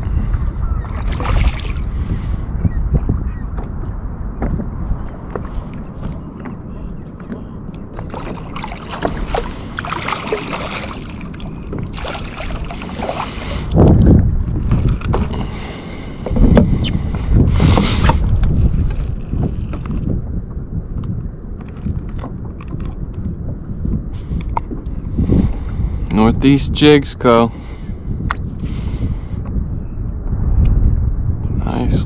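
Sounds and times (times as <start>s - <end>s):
wind buffeting the microphone: 0.0s - 32.0s.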